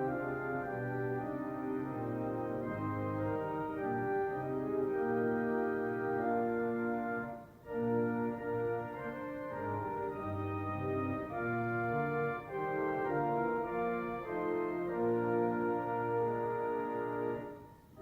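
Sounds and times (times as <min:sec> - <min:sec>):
church organ playing a hymn: 0:00.0 - 0:18.0.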